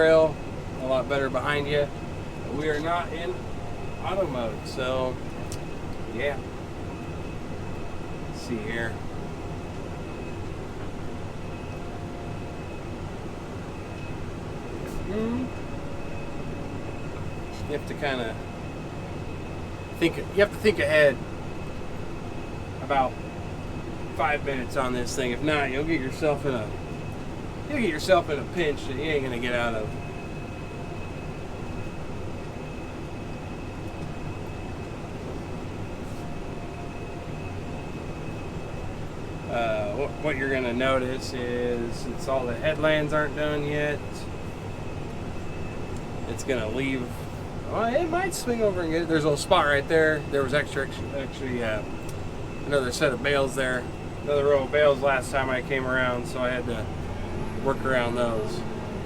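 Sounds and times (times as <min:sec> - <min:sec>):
faint steady whine: 0:00.0 - 0:59.0
tractor diesel engine drone: 0:00.0 - 0:59.0.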